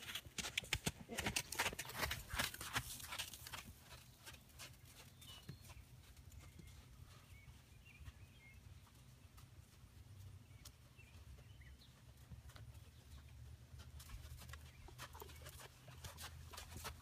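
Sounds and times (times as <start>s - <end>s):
horse hooves on sand: 0.0s - 17.0s.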